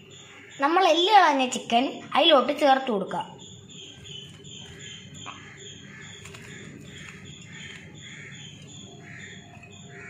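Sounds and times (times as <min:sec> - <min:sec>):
high chirping: 0:00.0 - 0:10.0.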